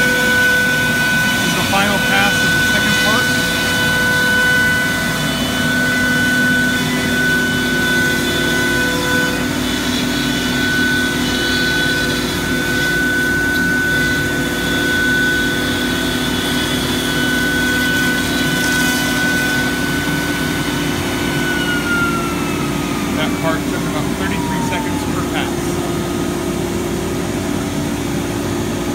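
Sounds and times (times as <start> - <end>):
router spindle whining: 0.0 - 28.9
vacuum pump hum: 0.0 - 28.9.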